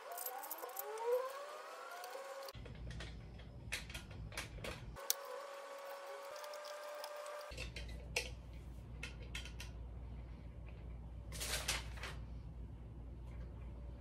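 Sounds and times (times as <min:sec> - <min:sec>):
low steady hum: 0:02.4 - 0:14.0.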